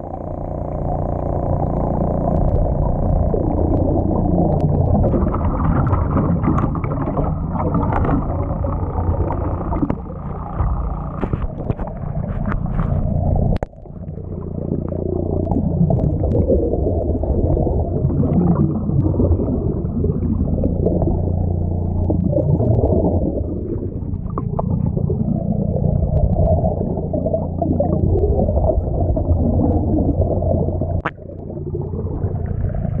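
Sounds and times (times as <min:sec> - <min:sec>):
bubbles gurgling: 0:00.0 - 0:33.0
low mechanical hum underwater: 0:00.0 - 0:33.0.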